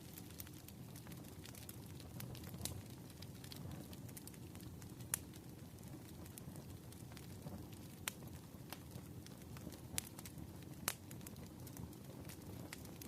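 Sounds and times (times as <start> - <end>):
crackling fire: 0.0 - 13.0
sharp fire pops: 0.0 - 13.0.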